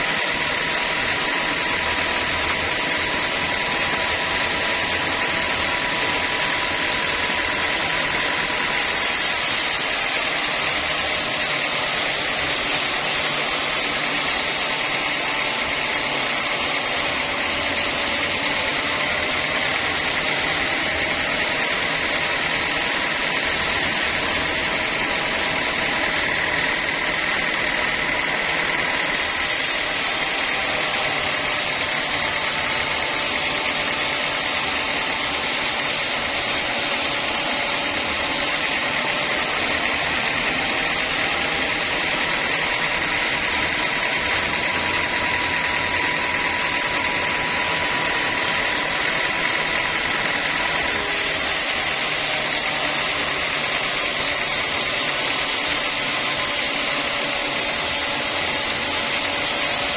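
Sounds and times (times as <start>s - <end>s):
sawmill saw whining through wood: 0.0s - 59.9s.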